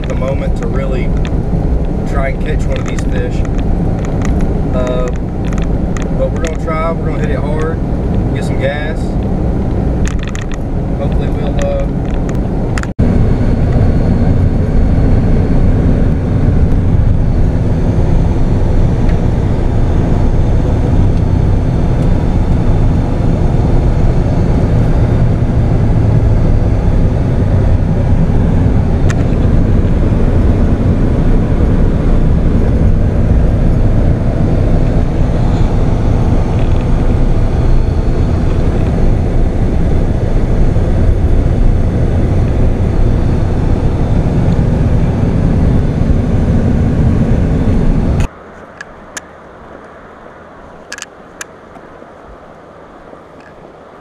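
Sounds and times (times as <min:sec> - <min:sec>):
road and engine rumble in vehicle cab: 0:00.0 - 0:54.0.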